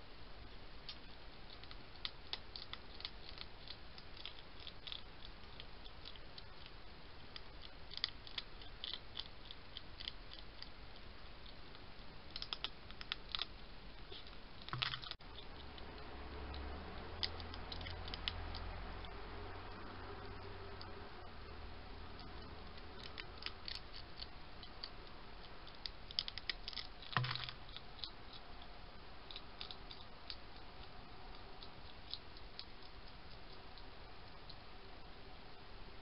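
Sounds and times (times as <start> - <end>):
low steady hum: 0.0 - 36.0
hedgehog crunching food: 0.5 - 35.6.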